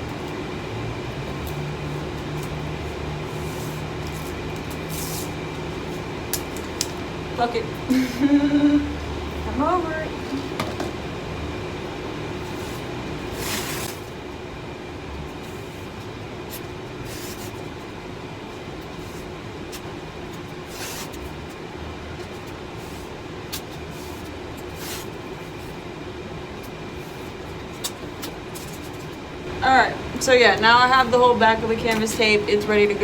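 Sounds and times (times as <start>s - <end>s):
background hum: 0.0s - 33.0s.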